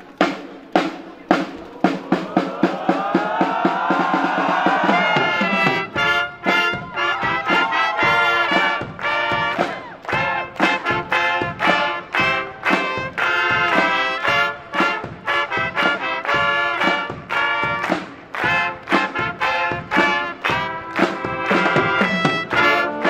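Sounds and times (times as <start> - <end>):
brass marching band: 0.0 - 23.0
cymbals: 0.0 - 23.0
drum beats: 0.0 - 23.0.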